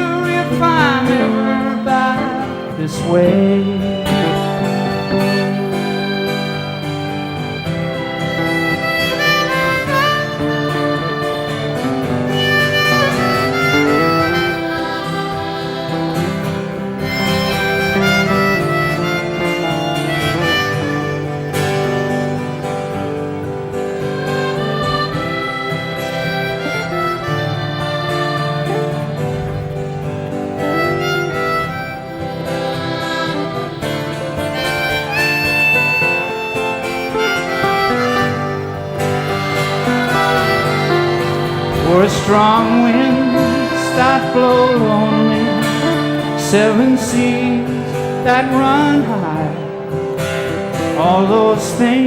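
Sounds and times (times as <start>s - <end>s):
guitar: 0.0s - 52.0s
harmonica solo: 0.0s - 52.0s
live band playing country-folk: 0.0s - 52.0s
sustained lead melody: 0.0s - 52.0s.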